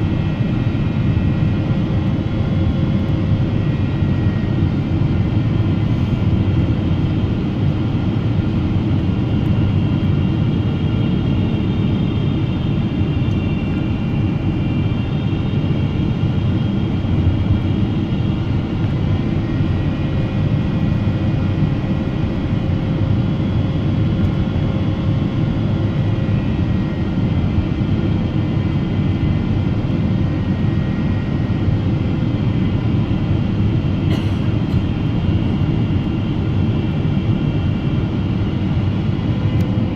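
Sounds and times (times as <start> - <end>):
airflow rushing in aircraft cabin: 0.0 - 39.9
jet engine noise: 0.0 - 39.9.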